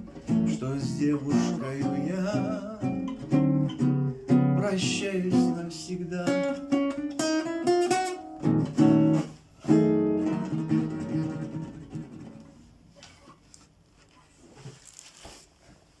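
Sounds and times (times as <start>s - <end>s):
acoustic guitar strumming: 0.0s - 12.8s.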